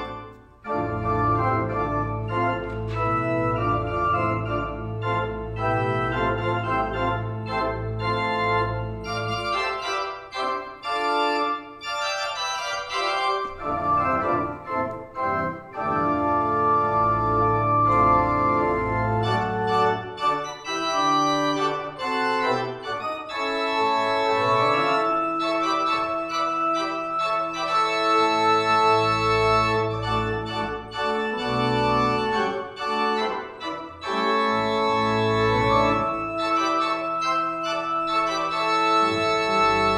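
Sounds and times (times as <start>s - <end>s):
organ playing sustained chords: 0.0s - 39.9s.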